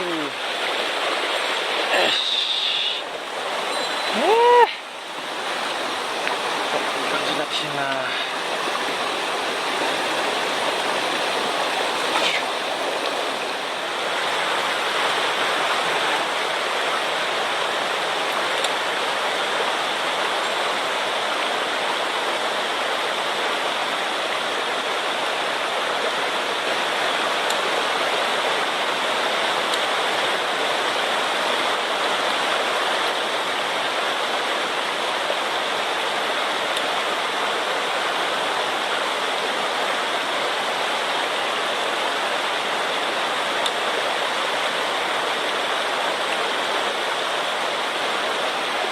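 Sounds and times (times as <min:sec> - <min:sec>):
stream rushing: 0:00.0 - 0:48.9.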